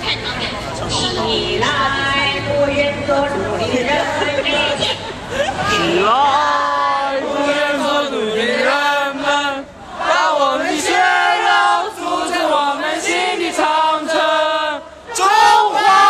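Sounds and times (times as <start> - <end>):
crowd singing in unison: 0.0 - 16.0.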